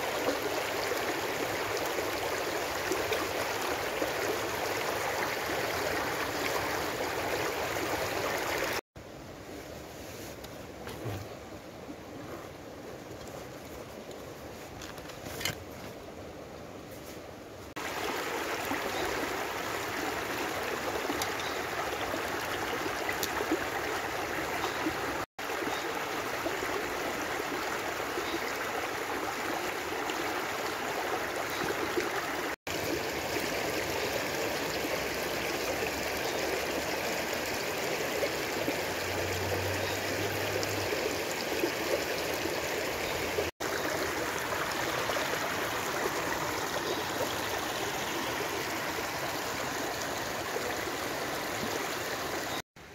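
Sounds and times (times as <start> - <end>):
stream rushing over stones: 0.0 - 8.8, 17.7 - 52.9.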